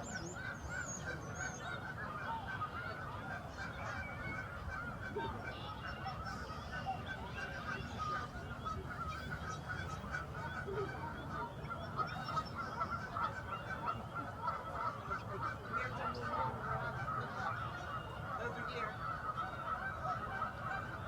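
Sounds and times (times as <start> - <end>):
flock of geese honking: 0.0 - 21.0.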